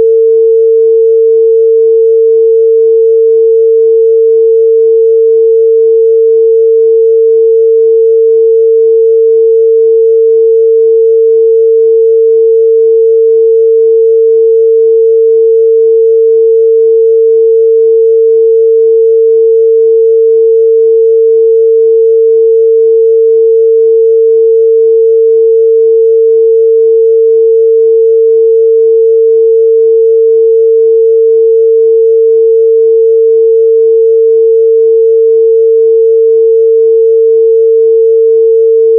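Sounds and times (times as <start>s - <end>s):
sine wave test tone: 0.0s - 38.9s.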